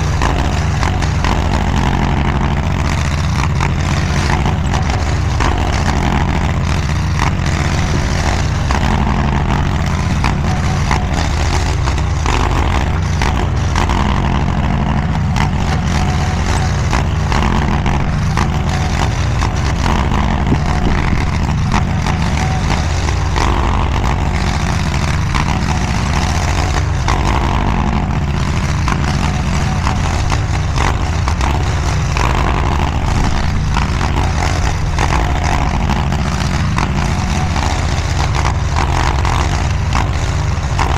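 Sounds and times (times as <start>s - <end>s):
mini skid steer engine running: 0.0s - 40.9s.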